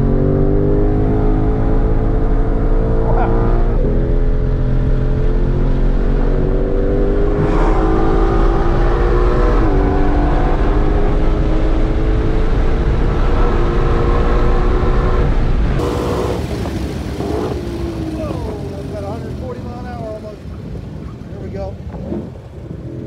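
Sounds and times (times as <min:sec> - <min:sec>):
car engine running hard: 0:00.0 - 0:23.0.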